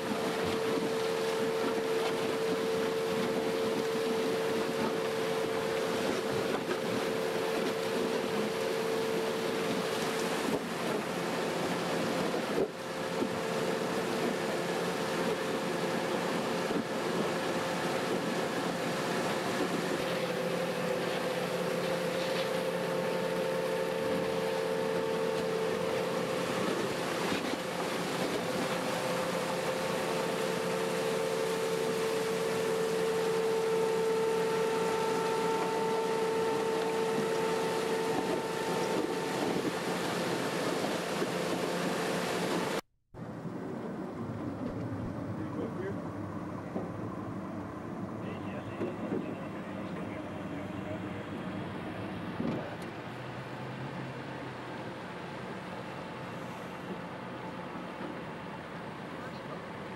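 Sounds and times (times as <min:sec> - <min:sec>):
deck machinery droning and whining: 0:00.0 - 0:59.9.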